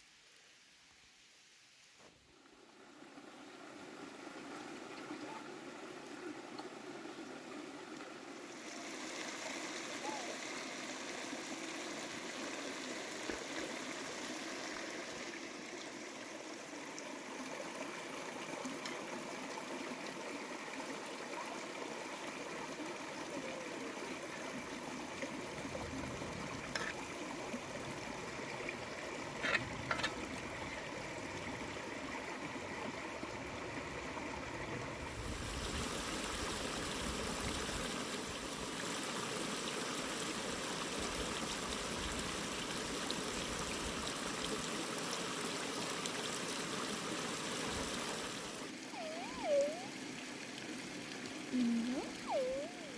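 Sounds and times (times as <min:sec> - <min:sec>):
running water: 0:02.0 - 0:52.9.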